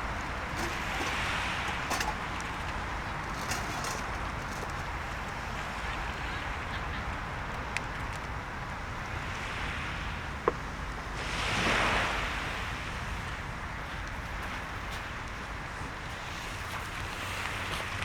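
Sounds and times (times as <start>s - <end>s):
surf and wind: 0.0s - 18.0s.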